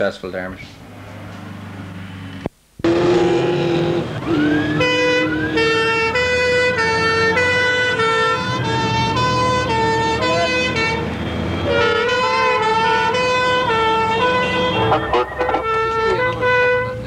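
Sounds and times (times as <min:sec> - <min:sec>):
two-tone siren: 0:02.8 - 0:16.8.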